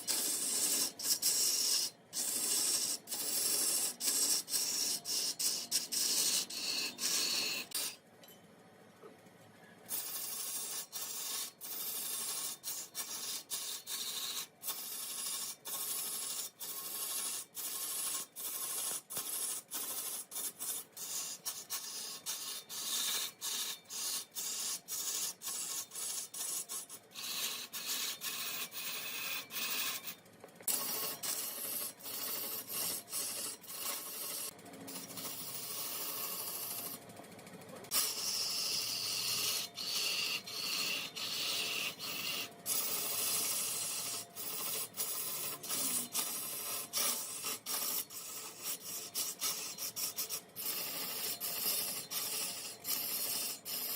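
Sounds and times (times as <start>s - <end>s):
wood lathe tool rasping: 0.0s - 8.0s, 9.9s - 37.0s, 37.8s - 53.9s.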